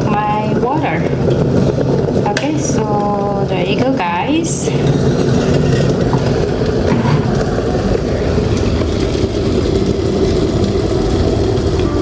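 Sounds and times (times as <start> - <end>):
kettle heating water: 0.0 - 12.0.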